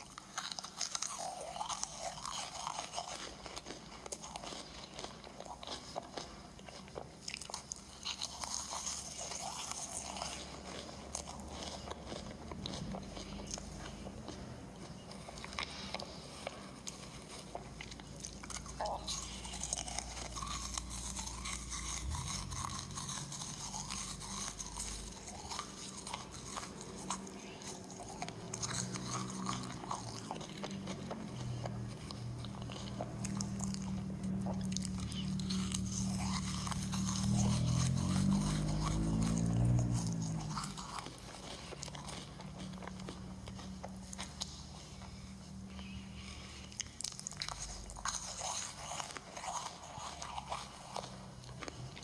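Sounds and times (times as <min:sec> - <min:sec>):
crunchy cookies being chewed: 0:00.0 - 0:52.0.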